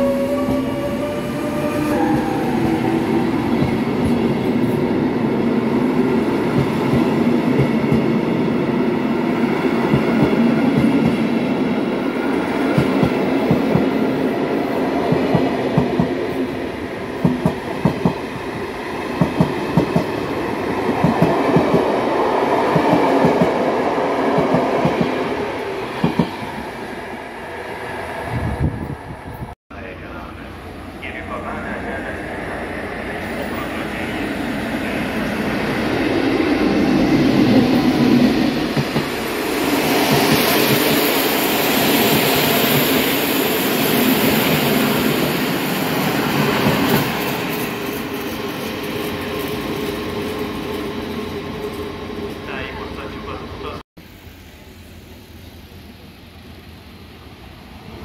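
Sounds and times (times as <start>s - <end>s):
train coaches rumbling: 0.0s - 53.8s.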